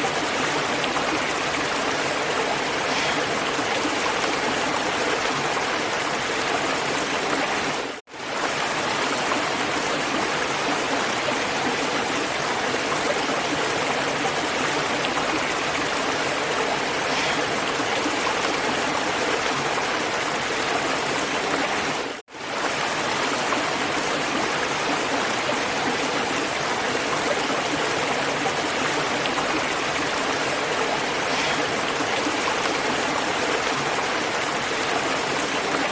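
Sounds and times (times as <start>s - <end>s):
water rushing: 0.0s - 35.9s.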